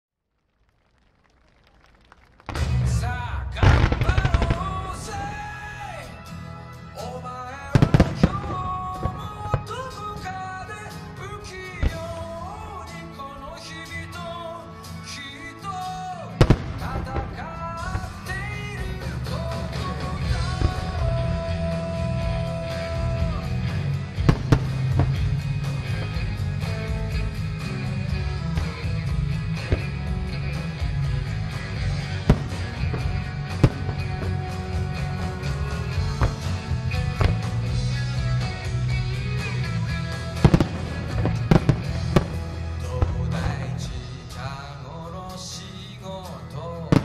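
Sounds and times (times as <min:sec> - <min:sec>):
fireworks launching and bursting: 0:00.6 - 0:06.4, 0:07.6 - 0:14.2, 0:16.4 - 0:44.6
rock song playing loudly: 0:02.5 - 0:47.0.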